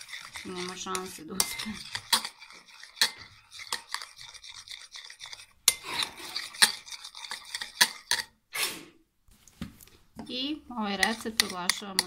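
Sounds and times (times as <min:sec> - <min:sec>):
spoon scraping glass bowl: 0:00.0 - 0:08.4, 0:10.2 - 0:12.0.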